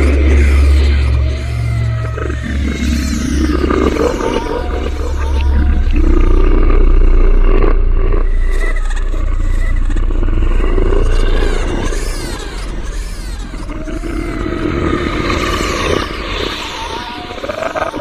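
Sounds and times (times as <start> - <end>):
deep steady drone: 0.0 - 18.0
rough roar-like growling: 0.0 - 18.0.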